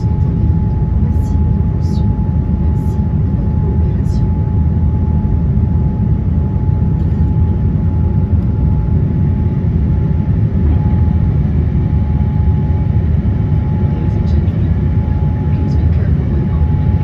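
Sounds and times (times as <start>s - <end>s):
jet engines rumbling: 0.0s - 17.0s
thin steady whine: 0.0s - 17.0s.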